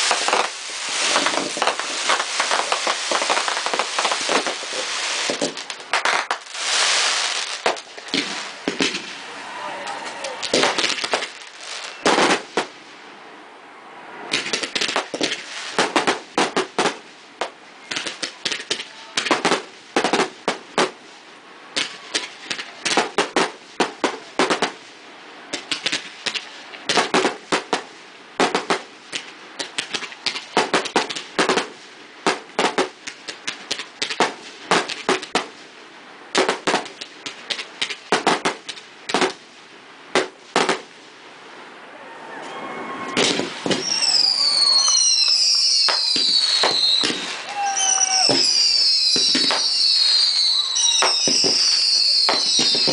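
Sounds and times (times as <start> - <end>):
fireworks bursting with sharp bangs: 0.0 - 13.0, 14.2 - 41.2, 42.8 - 52.9.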